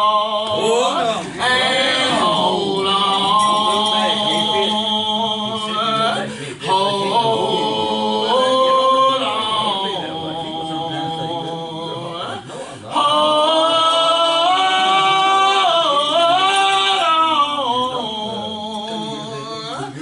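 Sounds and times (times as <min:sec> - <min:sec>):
voices singing gospel: 0:00.0 - 0:20.0.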